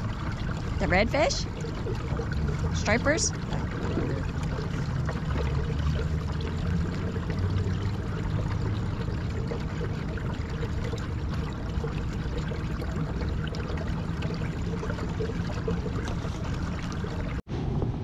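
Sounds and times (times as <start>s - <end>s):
water rushing along hull: 0.0s - 18.0s.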